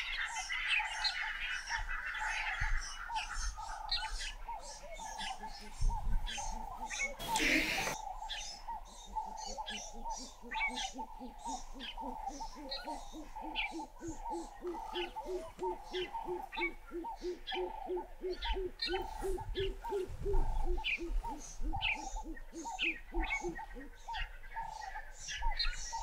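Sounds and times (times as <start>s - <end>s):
bird low hooting notes: 0.0s - 26.0s.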